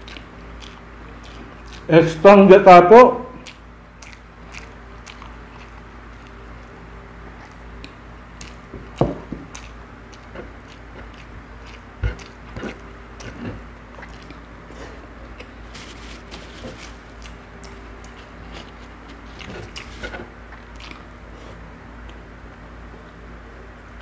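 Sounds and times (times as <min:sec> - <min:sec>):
man chewing with wet clicks: 0:00.0 - 0:01.9, 0:03.3 - 0:23.2.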